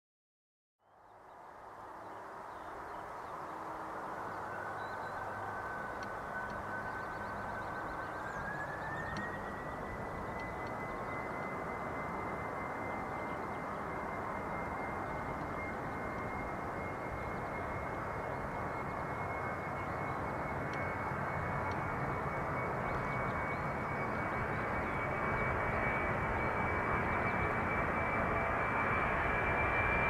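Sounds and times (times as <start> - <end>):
jet engines rumbling and whining: 1.6 - 30.0.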